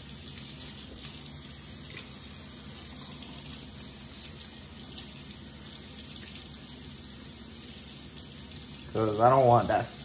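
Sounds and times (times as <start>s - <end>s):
tap water running: 0.0s - 10.0s.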